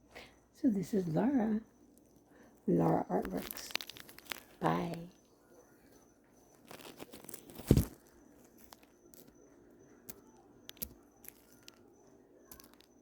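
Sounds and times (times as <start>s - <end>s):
rustling handling noises: 1.8s - 13.0s.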